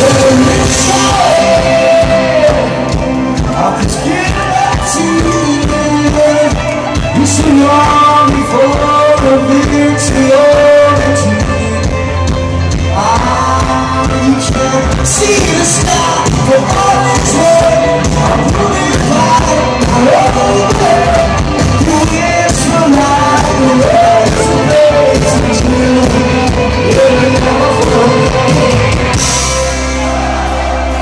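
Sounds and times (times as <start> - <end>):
lead vocal singing: 0.0 - 31.0
rock band playing live: 0.0 - 31.0
steady drum beat: 0.0 - 31.0.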